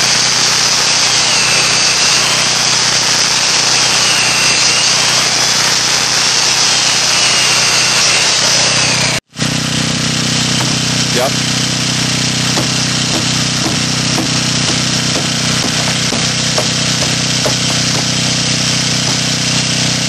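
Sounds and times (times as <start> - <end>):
circular saw cutting wood: 0.0 - 20.0.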